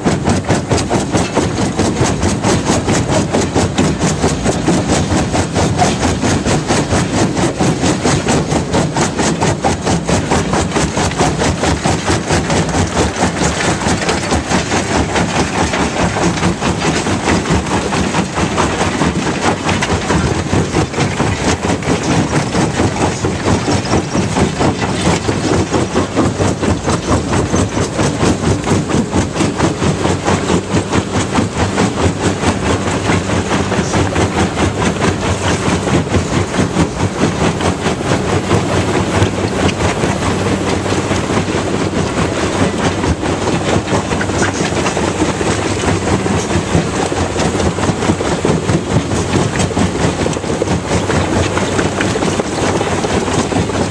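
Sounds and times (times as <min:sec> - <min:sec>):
jaw crusher crushing rock: 0:00.0 - 0:53.9.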